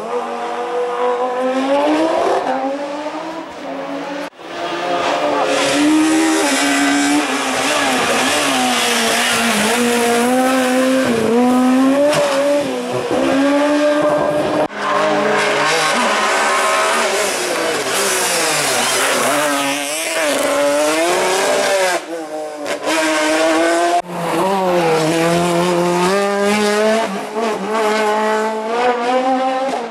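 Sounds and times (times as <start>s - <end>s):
racing car engines revving: 0.0s - 29.9s.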